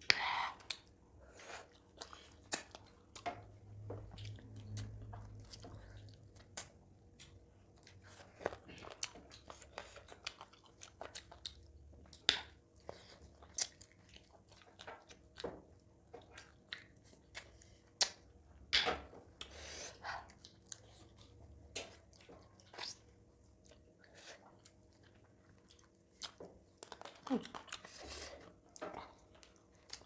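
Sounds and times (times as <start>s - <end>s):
people chewing and biting: 0.1s - 30.0s.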